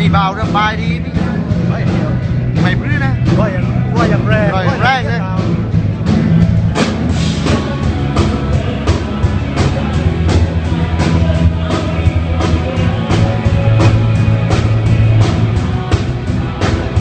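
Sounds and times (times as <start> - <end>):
drum kit steady beat: 0.0 - 17.0
rock band playing live: 0.0 - 17.0.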